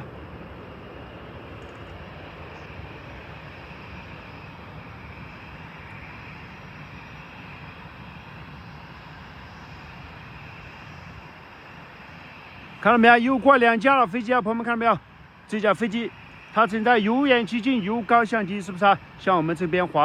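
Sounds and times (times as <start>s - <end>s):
distant jet aircraft rumble: 0.0s - 20.0s.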